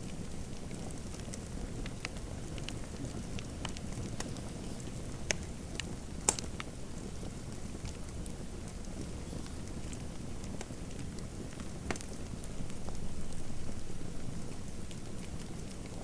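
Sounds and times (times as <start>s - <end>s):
fireplace fire crackling: 0.0s - 16.0s
fire pops: 0.4s - 13.8s.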